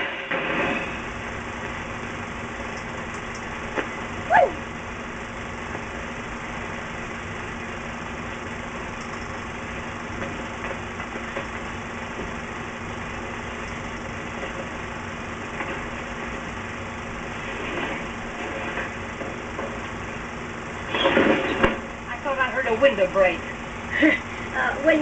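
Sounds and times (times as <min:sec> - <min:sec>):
film soundtrack hiss and hum: 0:00.0 - 0:25.0.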